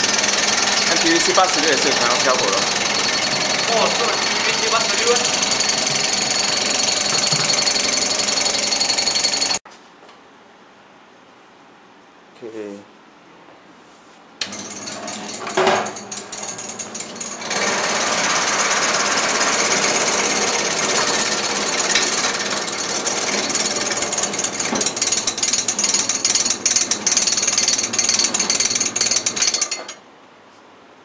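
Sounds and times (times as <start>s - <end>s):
cutting machine blade chatter: 0.0s - 9.6s, 14.4s - 30.0s.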